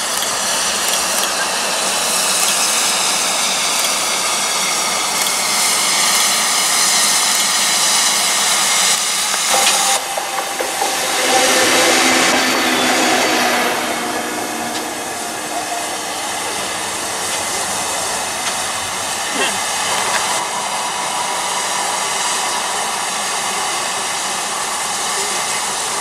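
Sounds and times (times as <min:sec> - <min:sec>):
steam locomotive hissing: 0:00.0 - 0:26.0.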